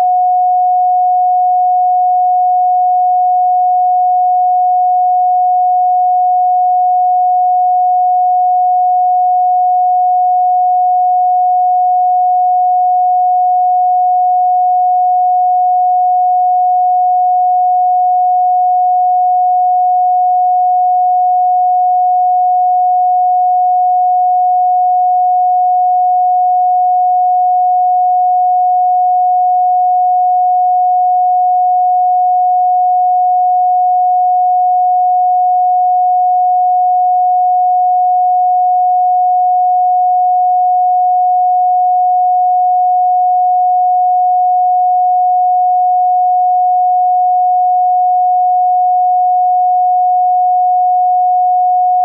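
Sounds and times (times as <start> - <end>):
steady sine tone: 0.0 - 52.0.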